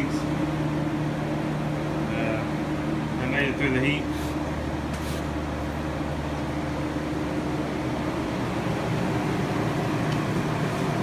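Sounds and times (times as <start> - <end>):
ventilation fans humming: 0.0 - 11.0.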